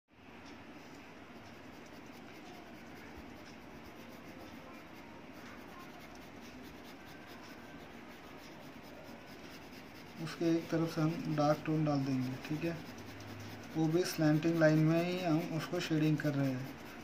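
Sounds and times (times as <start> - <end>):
pencil scratching on paper: 1.4 - 17.0.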